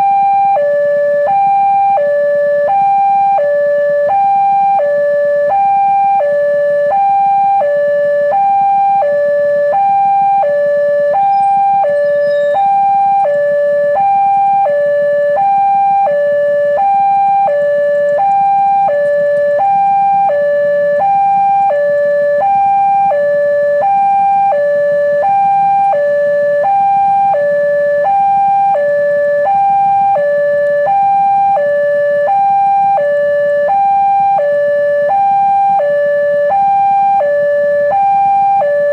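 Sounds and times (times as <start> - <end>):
level-crossing two-tone alarm: 0.0 - 38.9.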